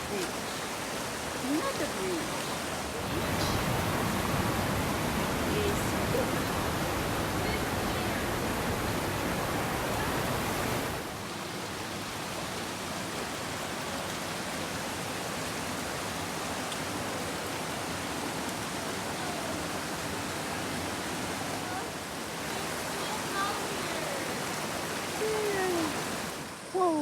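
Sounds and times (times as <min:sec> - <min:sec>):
stream water rushing: 0:00.0 - 0:27.0.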